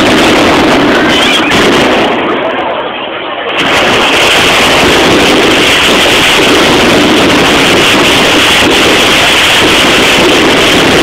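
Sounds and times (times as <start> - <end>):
firecrackers roaring barrage: 0.0 - 11.0.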